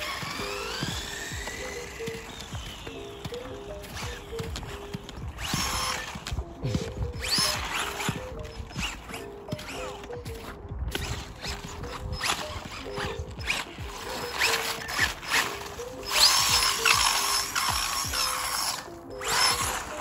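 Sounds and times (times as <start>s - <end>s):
background music: 0.0s - 20.0s
electric motor whining: 0.0s - 20.0s.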